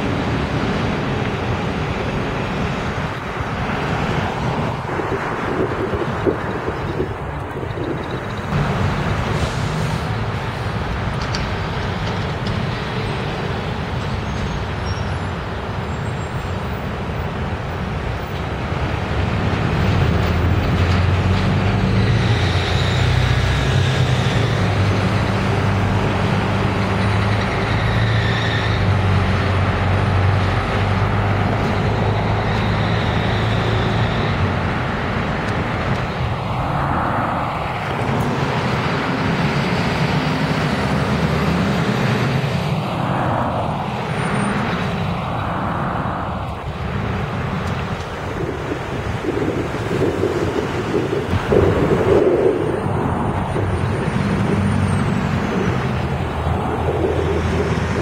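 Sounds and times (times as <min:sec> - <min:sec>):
bus engine drone: 0:00.0 - 0:58.0
street traffic: 0:00.0 - 0:58.0.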